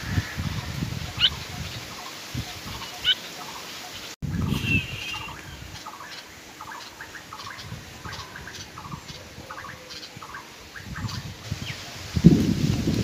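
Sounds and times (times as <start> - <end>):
birds chirping harshly: 0.0 - 11.8.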